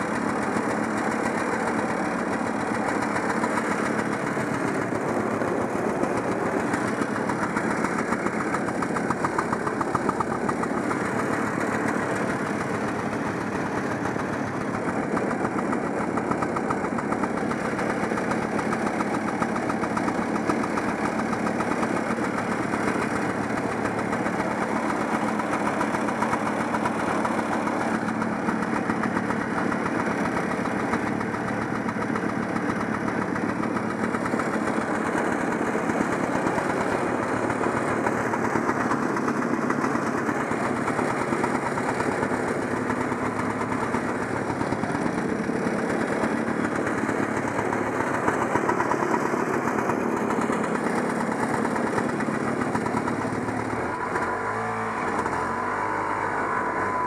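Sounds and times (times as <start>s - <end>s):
two-stroke engine idling: 0.0s - 57.0s.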